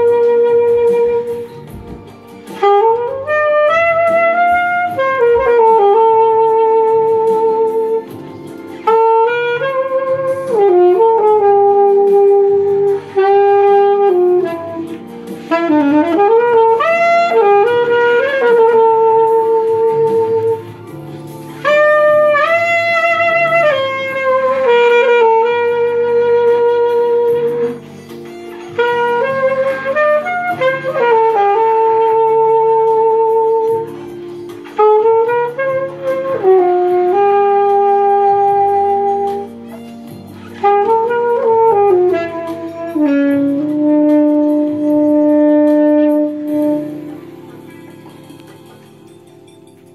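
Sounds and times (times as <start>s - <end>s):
saxophone playing slow melody: 0.0s - 48.5s
backing track: 0.0s - 49.9s.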